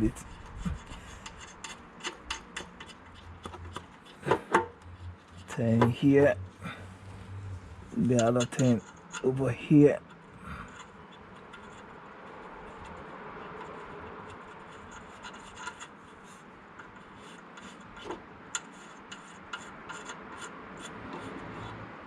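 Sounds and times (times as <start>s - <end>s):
rubbing and scraping: 0.0s - 22.0s.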